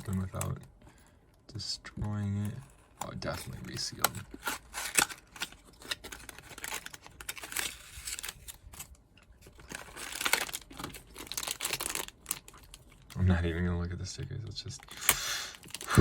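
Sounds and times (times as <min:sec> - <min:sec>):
packaging crinkling and tearing: 0:00.0 - 0:00.6, 0:02.3 - 0:13.4, 0:14.7 - 0:16.0.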